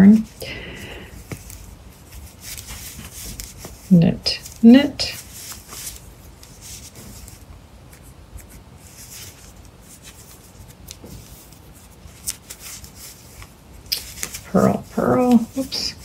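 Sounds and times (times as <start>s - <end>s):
yarn rustling over knitting needles: 0.0s - 16.0s.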